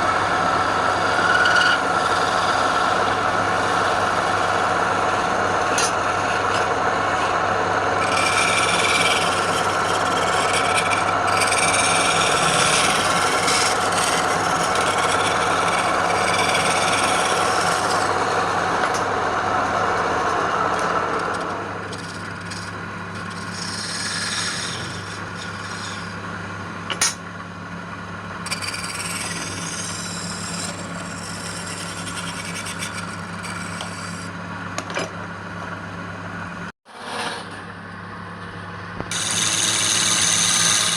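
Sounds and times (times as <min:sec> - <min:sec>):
spinning wood being scraped: 0:00.0 - 0:27.2, 0:28.3 - 0:34.4, 0:39.1 - 0:40.9
wood lathe motor running: 0:00.0 - 0:27.2, 0:28.0 - 0:34.7, 0:39.0 - 0:40.9.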